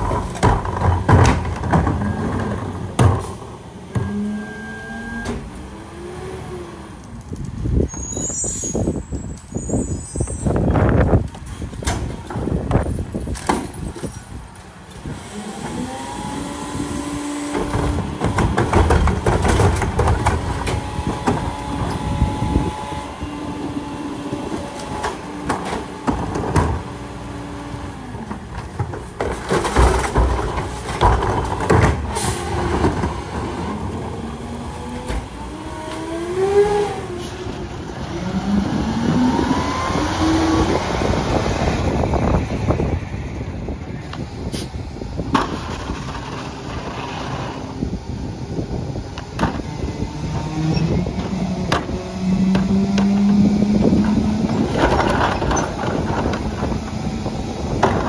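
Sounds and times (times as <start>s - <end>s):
garbage truck engine and hydraulic whine: 0.0s - 58.0s.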